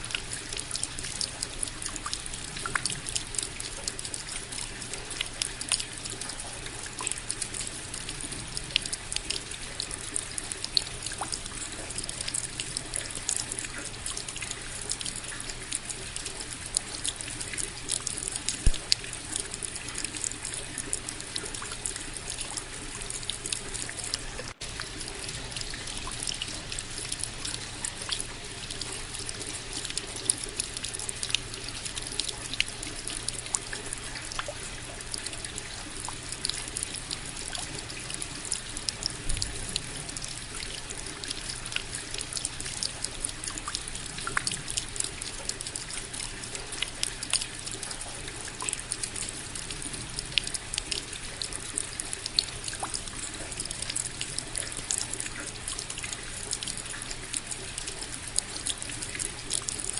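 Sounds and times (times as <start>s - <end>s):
steady rain with drop hits: 0.0s - 59.9s.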